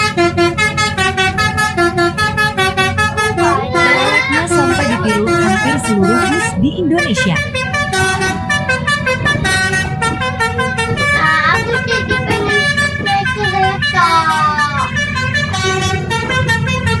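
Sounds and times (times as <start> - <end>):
low engine rumble: 0.0 - 17.0
multi-tone musical horn: 0.0 - 17.0.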